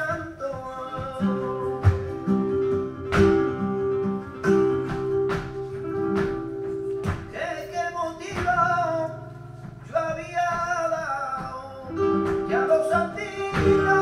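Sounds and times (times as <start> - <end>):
flamenco guitar: 0.0 - 14.0.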